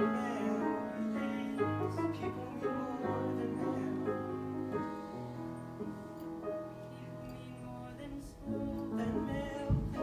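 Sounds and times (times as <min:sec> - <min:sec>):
singing: 0:00.0 - 0:05.0, 0:06.8 - 0:10.0
piano playing slow chords: 0:00.0 - 0:10.0.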